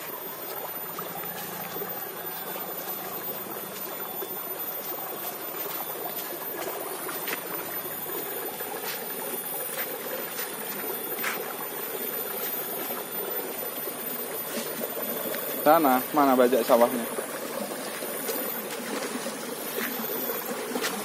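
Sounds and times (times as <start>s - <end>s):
water rushing through channel: 0.0s - 21.0s.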